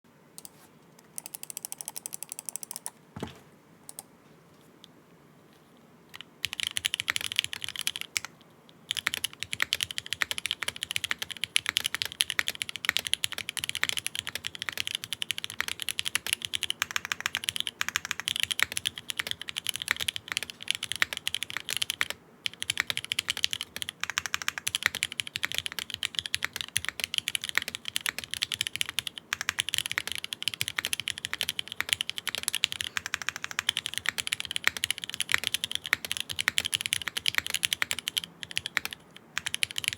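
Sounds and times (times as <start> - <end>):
clacky mechanical keyboard typing: 1.2 - 2.9, 6.2 - 39.9.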